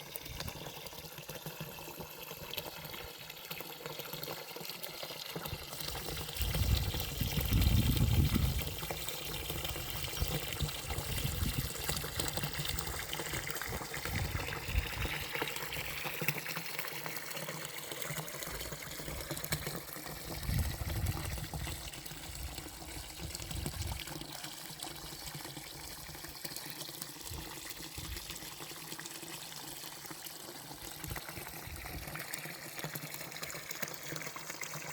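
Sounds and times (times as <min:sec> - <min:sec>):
water trickling: 0:00.0 - 0:34.9.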